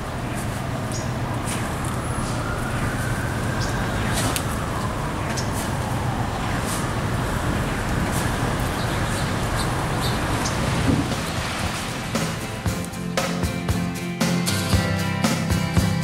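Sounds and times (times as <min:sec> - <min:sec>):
raindrops ticking: 0:00.0 - 0:13.6
rain hiss: 0:00.0 - 0:15.6.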